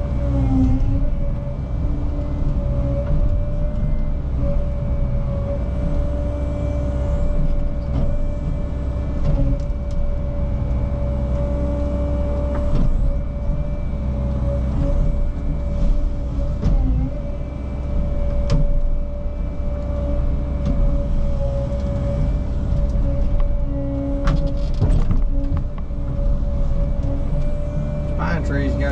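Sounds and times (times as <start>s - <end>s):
excavator diesel engine: 0.0s - 28.9s
hydraulic whine: 0.0s - 28.9s.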